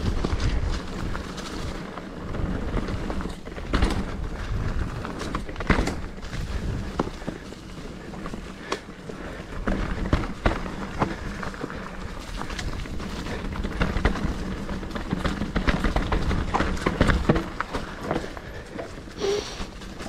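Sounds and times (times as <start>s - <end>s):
bike tyres rolling over rocks: 0.0s - 20.0s.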